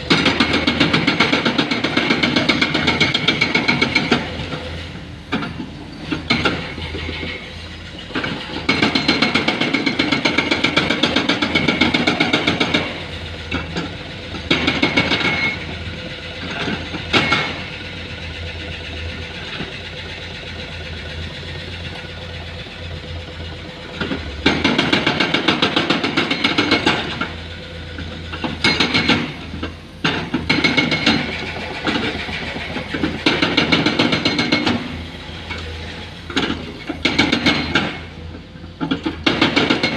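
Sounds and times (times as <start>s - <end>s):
diesel engine running: 0.0s - 39.9s
hydraulic breaker hammering rock: 0.0s - 39.9s.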